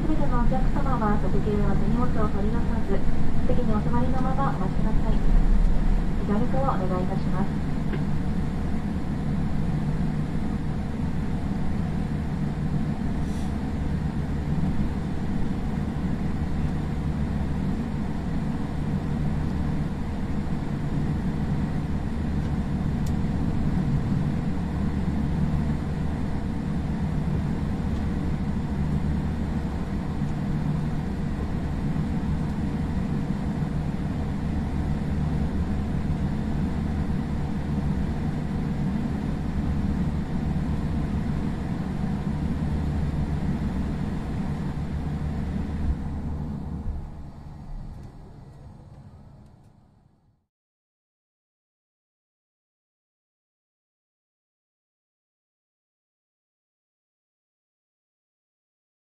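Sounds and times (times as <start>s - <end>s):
airplane cabin rumble: 0.0s - 50.4s
faint steady hum: 0.0s - 50.4s.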